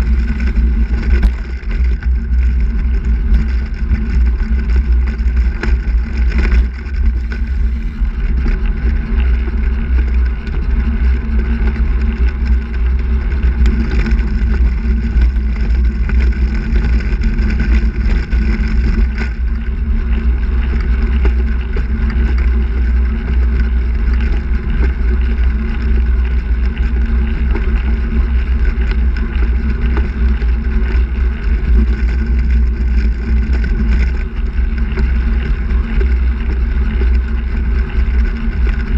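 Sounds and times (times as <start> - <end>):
tyres rolling on asphalt: 0.0 - 38.9
wind rumble on microphone: 0.0 - 38.9.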